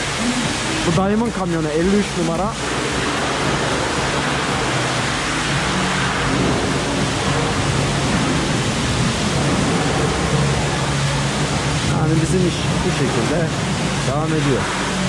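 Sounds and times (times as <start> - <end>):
low hum: 0.0 - 15.0
water jet spraying: 0.0 - 15.0.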